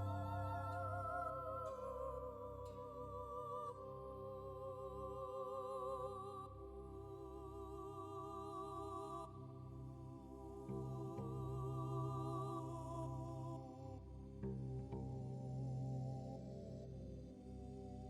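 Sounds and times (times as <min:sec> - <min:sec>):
slow sustained melody with vibrato: 0:00.0 - 0:18.0.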